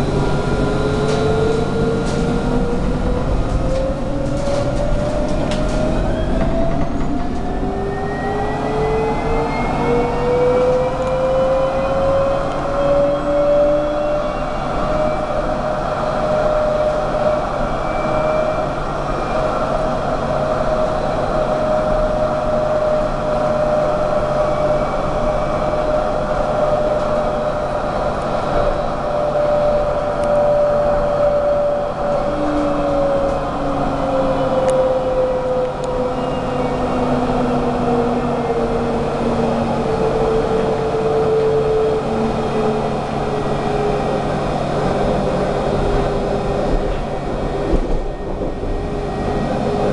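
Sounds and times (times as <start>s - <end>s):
tram rolling rumble: 0.0s - 49.9s.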